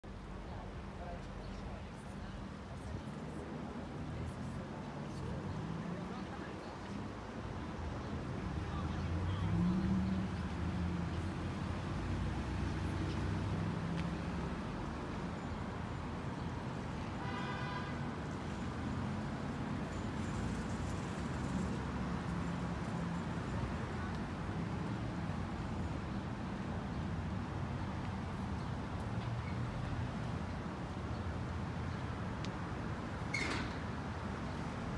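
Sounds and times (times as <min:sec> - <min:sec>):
distant traffic hum: 0:00.0 - 0:34.9.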